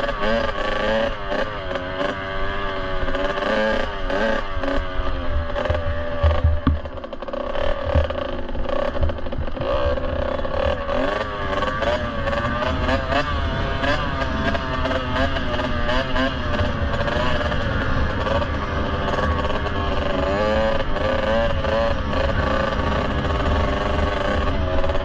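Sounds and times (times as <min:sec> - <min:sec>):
two-stroke motorbike engine revving: 0:00.0 - 0:25.0.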